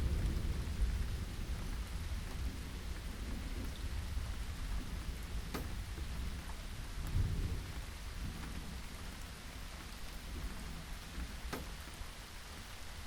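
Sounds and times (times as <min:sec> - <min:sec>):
distant thunder rumble: 0:00.0 - 0:12.1
steady rain falling: 0:00.0 - 0:13.0.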